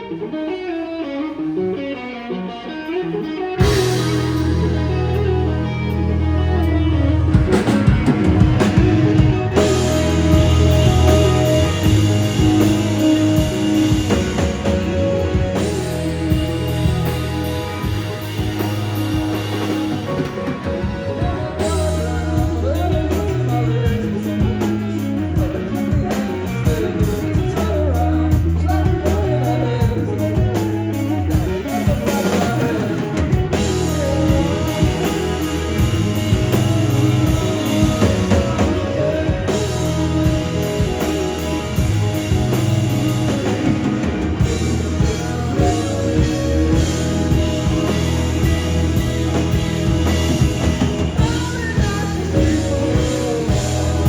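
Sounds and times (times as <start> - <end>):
rock band playing live: 0.0 - 54.0
drum kit fast beat: 3.6 - 6.1, 7.4 - 54.0
low bass notes: 3.6 - 54.0.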